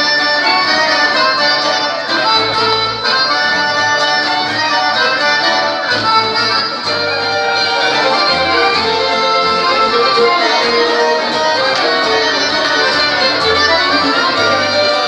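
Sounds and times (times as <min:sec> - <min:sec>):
accordion: 0:00.0 - 0:15.0
guitars strumming: 0:00.0 - 0:15.0.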